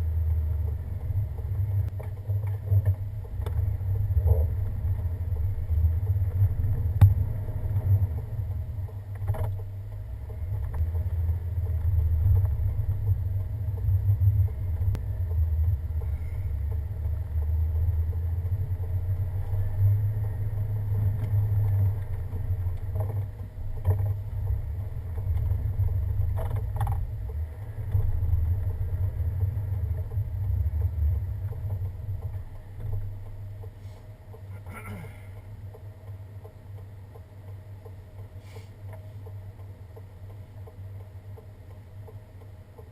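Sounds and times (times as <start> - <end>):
truck engine and road noise: 0.0 - 42.9
faint knocks and clicks: 0.2 - 42.9.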